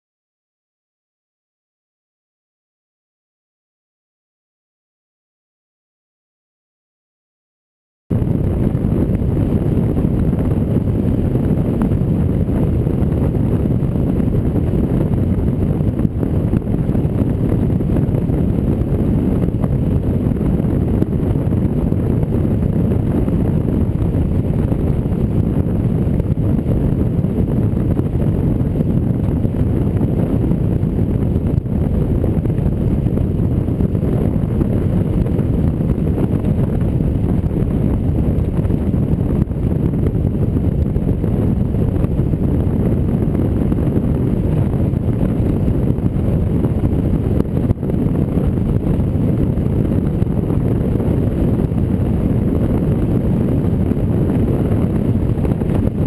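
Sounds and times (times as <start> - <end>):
wind buffeting microphone: 8.1 - 56.0.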